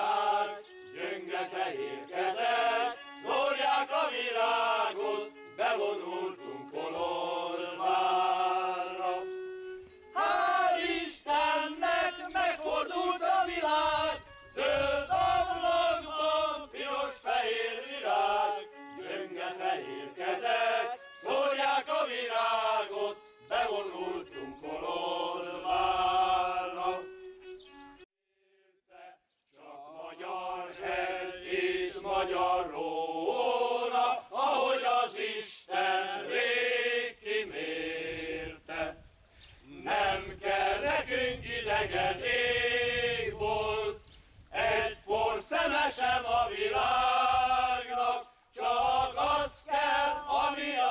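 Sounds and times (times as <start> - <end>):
men's choir singing: 0.0 - 27.2, 28.9 - 39.0, 39.7 - 50.9.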